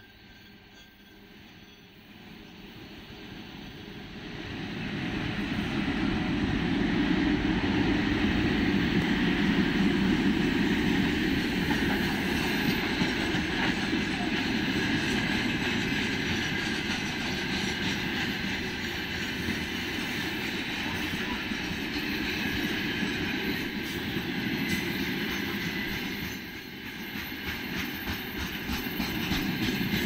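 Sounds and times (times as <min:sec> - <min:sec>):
electric locomotive passing: 0:00.0 - 0:30.0
freight train wheels rumbling: 0:00.0 - 0:30.0.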